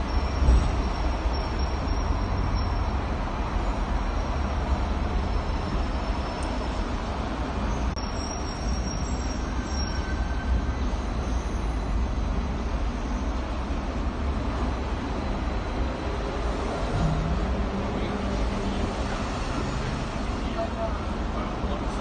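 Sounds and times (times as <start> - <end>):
tram rumbling on rails: 0.0 - 22.0.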